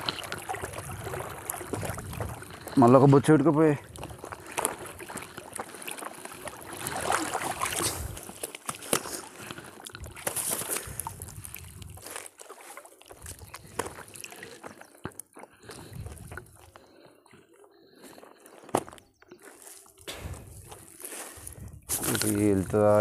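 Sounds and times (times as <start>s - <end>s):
water splashing and trickling: 0.0s - 16.8s, 19.5s - 23.0s.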